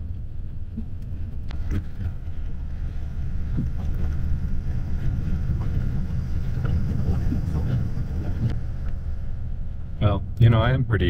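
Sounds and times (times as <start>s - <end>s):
bus tyre and engine rumble: 0.0s - 11.0s.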